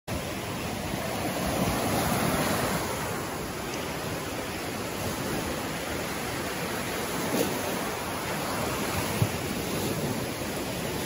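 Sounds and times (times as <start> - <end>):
small waves breaking on sand: 0.1 - 11.0.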